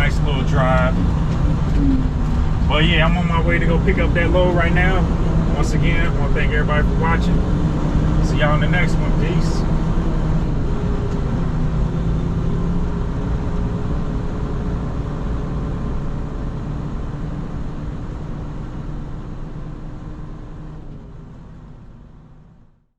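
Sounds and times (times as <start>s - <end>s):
truck engine and road noise: 0.0s - 22.9s.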